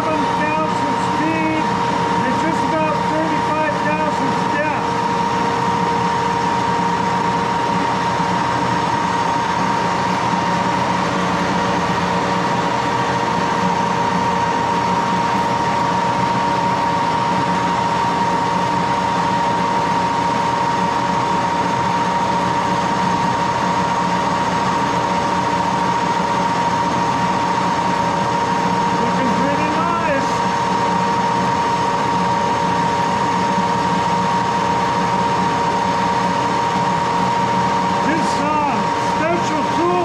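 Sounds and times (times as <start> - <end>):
lathe running with gear whine: 0.0 - 40.0.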